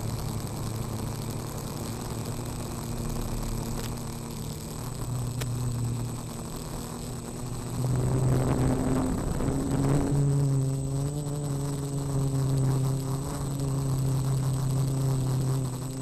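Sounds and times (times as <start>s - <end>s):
high whine: 0.0s - 16.0s
quadcopter motors buzzing: 0.0s - 16.0s.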